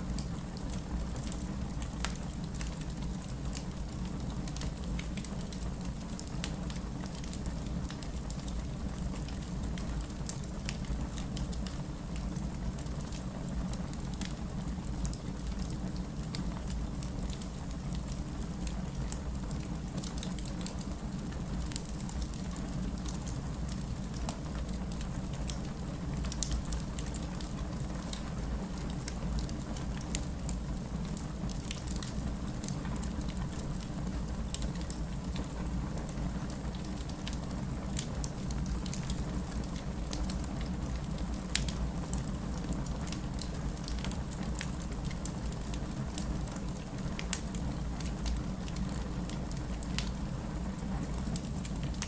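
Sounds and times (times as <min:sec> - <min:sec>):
low rumble of flames: 0:00.0 - 0:52.0
logs crackling and popping: 0:00.2 - 0:52.0.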